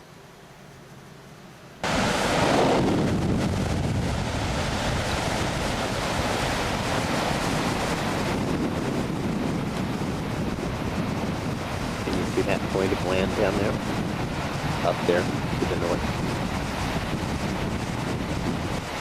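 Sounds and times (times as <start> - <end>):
ocean surf washing: 1.8 - 19.0
wind buffeting microphone: 1.8 - 19.0.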